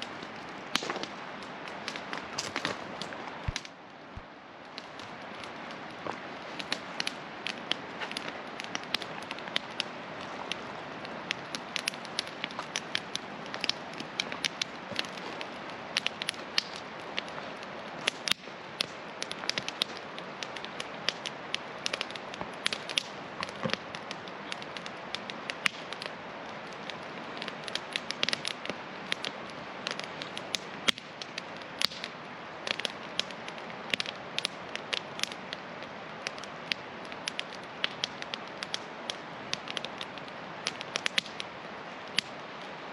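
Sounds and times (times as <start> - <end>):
campfire crackling and popping: 0.0 - 42.9
river rushing: 0.0 - 42.9.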